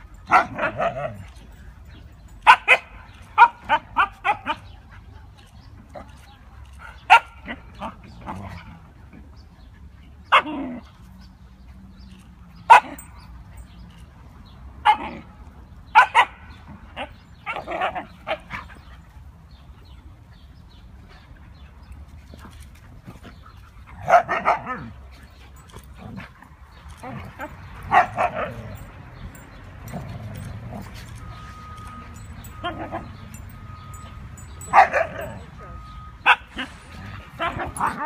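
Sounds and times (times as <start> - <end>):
dogs barking and yipping: 0.0 - 5.2, 5.8 - 38.0.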